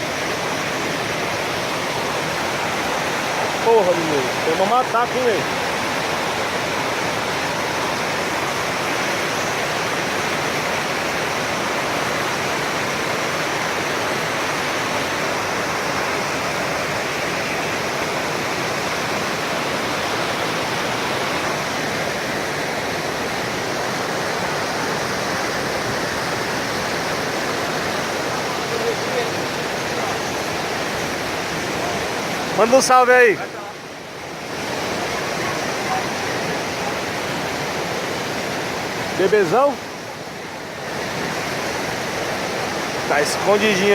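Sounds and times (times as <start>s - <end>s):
waterfall crashing: 0.0s - 43.9s.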